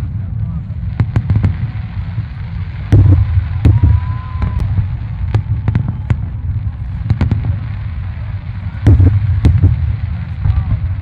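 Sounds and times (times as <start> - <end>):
fireworks booming: 0.0 - 11.0
fireworks cracks and bangs: 0.0 - 11.0.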